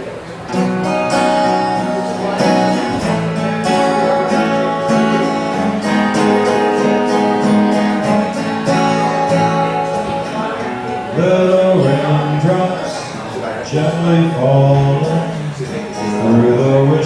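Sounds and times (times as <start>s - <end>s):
guitar playing: 0.0s - 17.0s
long held melody notes: 0.4s - 17.0s.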